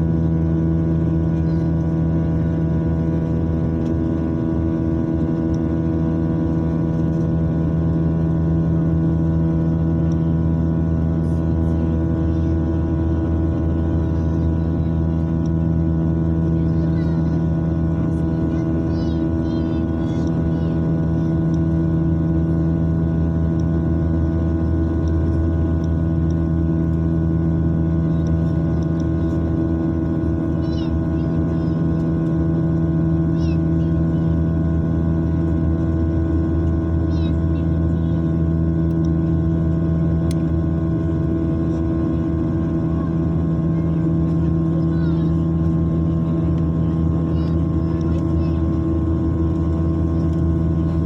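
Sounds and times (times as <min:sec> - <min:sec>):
aircraft engines droning: 0:00.0 - 0:51.0.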